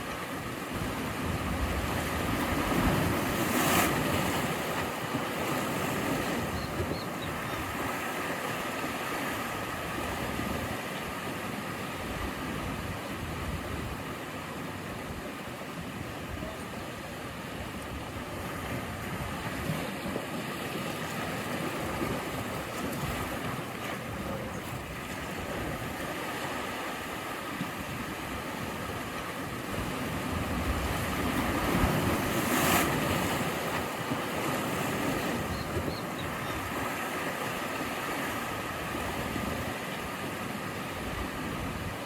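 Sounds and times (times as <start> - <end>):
sea waves washing onto shore: 0.0 - 42.0.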